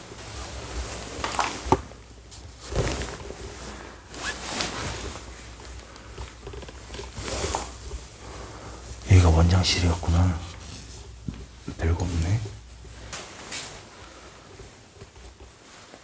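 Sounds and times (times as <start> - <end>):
rustling and handling noise: 0.0 - 16.0.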